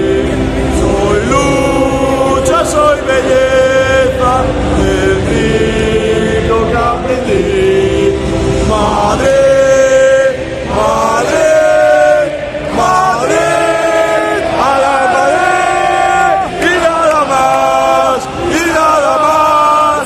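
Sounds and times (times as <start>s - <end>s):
stadium crowd singing: 0.0s - 20.0s.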